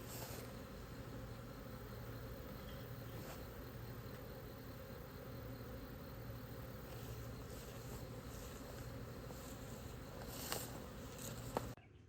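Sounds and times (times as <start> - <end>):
bee swarm buzzing: 0.0 - 11.8.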